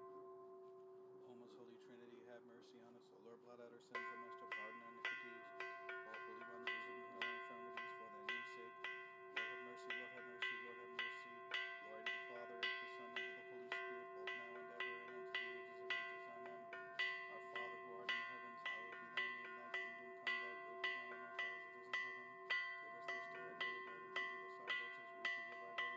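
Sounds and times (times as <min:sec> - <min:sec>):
church bells ringing: 0:00.0 - 0:02.8, 0:03.9 - 0:25.9.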